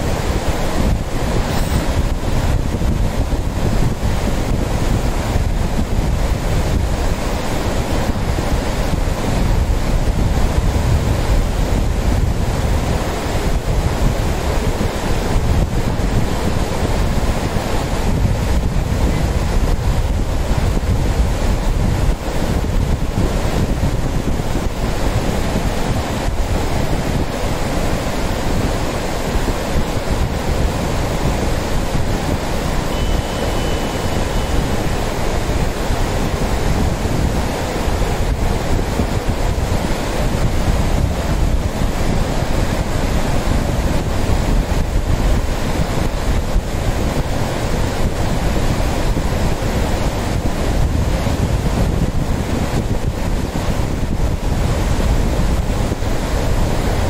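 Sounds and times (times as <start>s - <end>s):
river rushing over rocks: 0.0s - 57.0s
wind rumbling on microphone: 0.0s - 57.0s.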